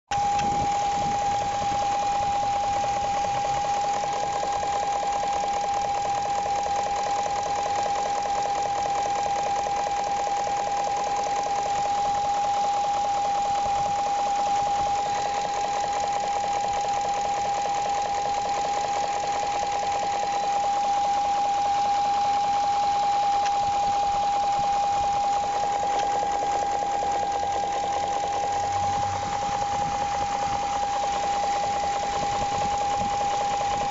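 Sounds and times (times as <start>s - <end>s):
car engine running: 0.1s - 33.9s
light engine knocking: 0.2s - 33.9s.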